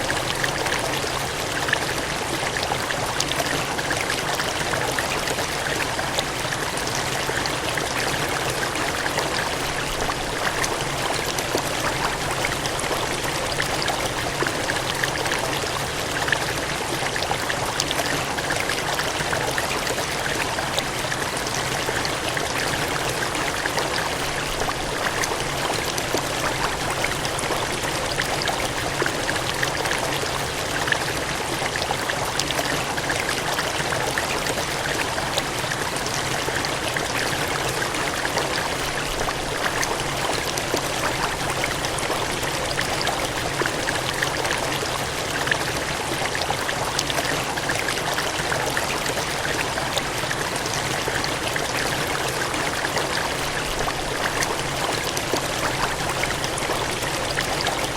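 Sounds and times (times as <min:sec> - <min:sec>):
cascading water gushing: 0:00.0 - 0:57.9.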